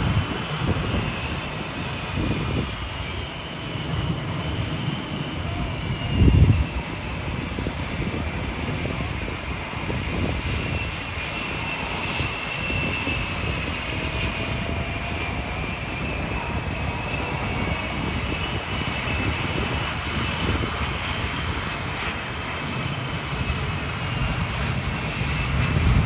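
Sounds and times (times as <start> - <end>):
jet engine whine: 0.0 - 26.0.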